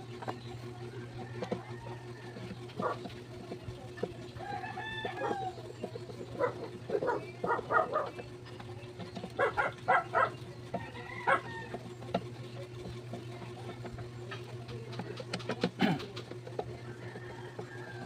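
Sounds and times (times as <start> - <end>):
chickens clucking: 0.0 - 18.0
steady low hum: 0.0 - 18.0.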